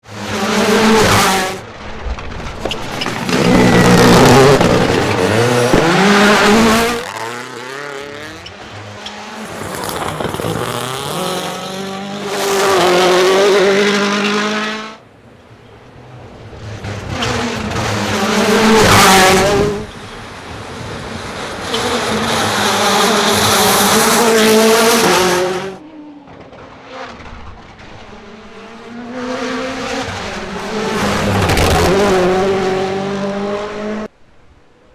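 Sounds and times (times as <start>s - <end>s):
rally car engines revving: 0.0s - 34.1s.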